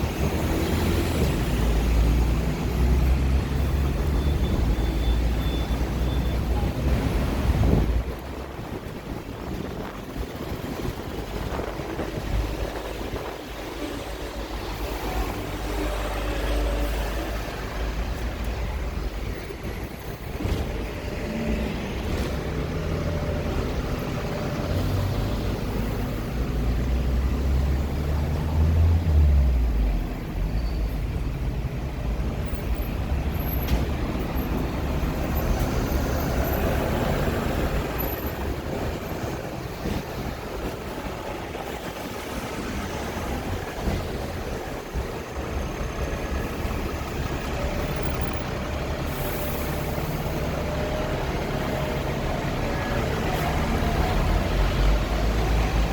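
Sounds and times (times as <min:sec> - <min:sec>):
road traffic: 0:00.0 - 0:55.9
tram rumbling: 0:00.0 - 0:55.9.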